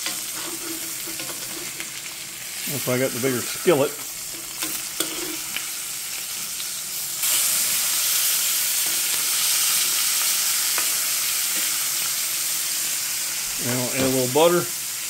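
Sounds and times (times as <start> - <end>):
pork chops sizzling in skillet: 0.0 - 15.0.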